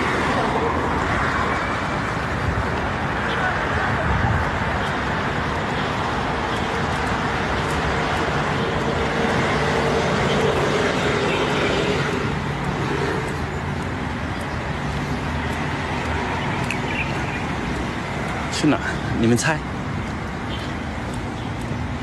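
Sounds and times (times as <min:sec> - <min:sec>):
cars passing on city street: 0:00.0 - 0:22.0.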